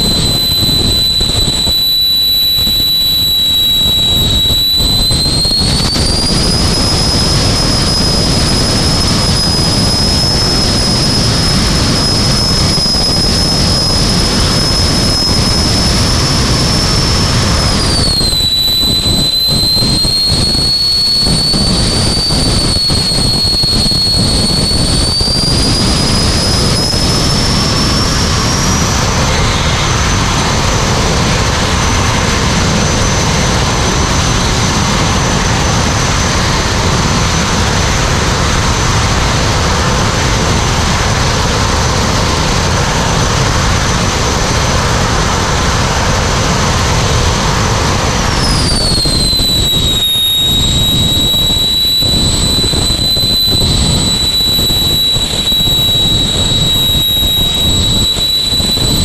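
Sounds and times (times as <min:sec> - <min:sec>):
jet engine whine: 0:00.0 - 0:59.0
low engine rumble: 0:00.0 - 0:59.0.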